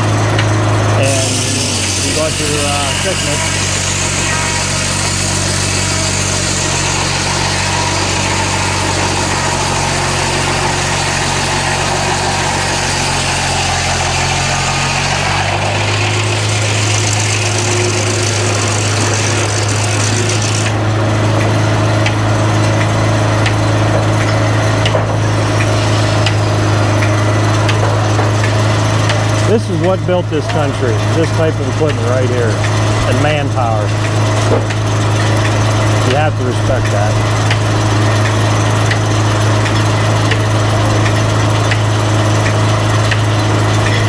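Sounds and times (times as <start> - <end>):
circular saw cutting log: 0.0 - 44.0
engine running: 0.0 - 44.0.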